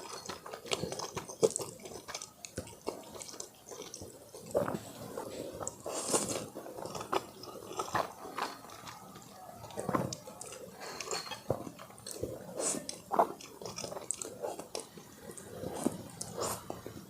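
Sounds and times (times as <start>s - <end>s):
person chewing crisp food: 0.0s - 17.0s.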